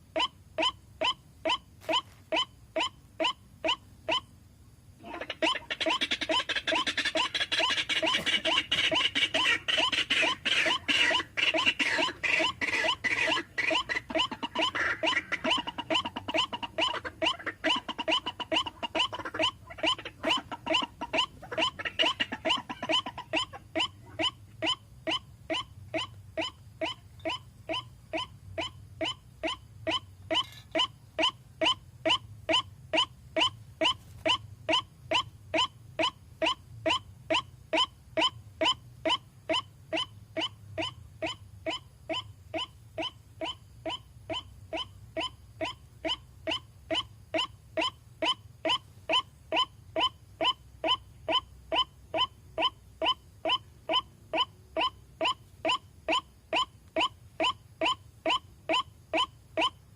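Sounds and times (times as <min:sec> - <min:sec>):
waterhen calling: 0:05.0 - 0:59.8.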